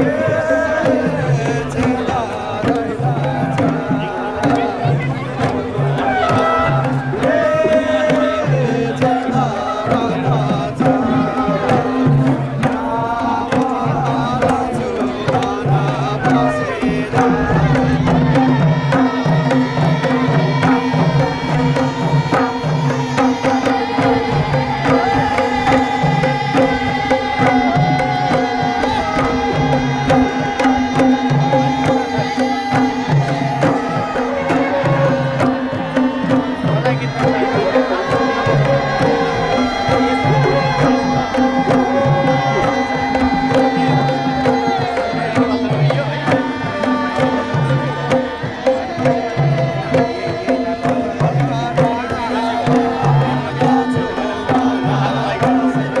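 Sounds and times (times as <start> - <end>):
hand drums playing rhythm: 0.0 - 56.0
people singing folk song: 0.0 - 56.0.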